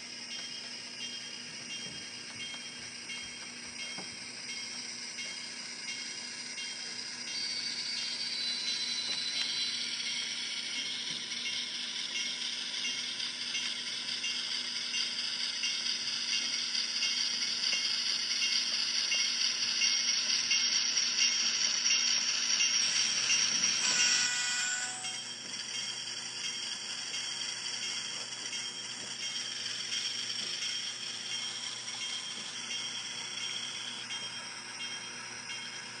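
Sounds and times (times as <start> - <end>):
model train motor whirring: 0.0 - 36.0.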